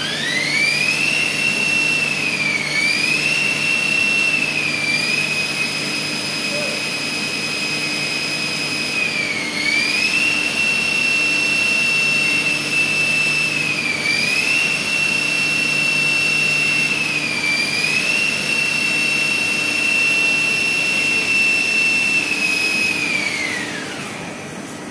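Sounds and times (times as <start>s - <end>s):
high-speed motor whining: 0.0s - 24.8s.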